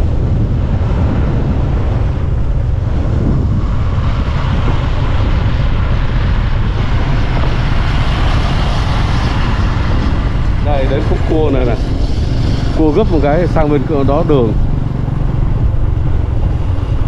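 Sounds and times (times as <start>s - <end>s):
motorbike engine rumble: 0.0s - 17.0s
wind buffeting microphone: 0.0s - 17.0s.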